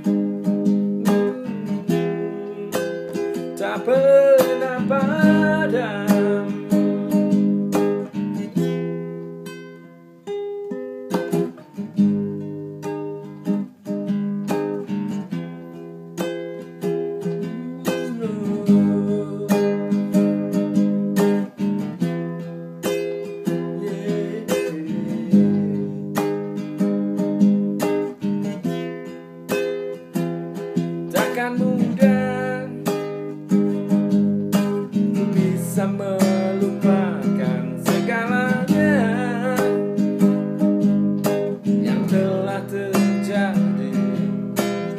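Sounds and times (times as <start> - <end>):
classical guitar fingerpicking: 0.0 - 44.9.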